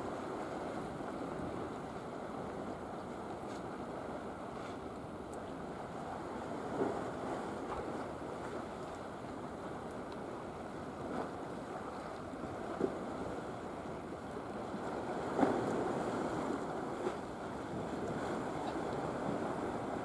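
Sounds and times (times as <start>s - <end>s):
sea waves: 0.0s - 20.0s
wind: 0.0s - 20.0s.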